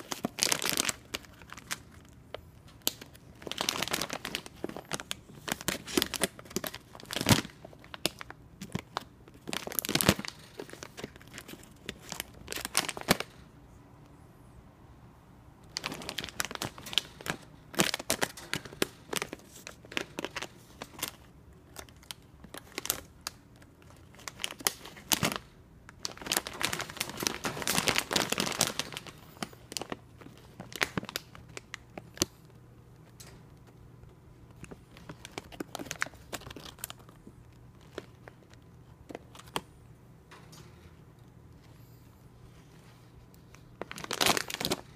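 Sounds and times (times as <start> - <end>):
plastic mesh bag crinkling: 0.0 - 13.5, 15.6 - 41.8, 42.4 - 44.9.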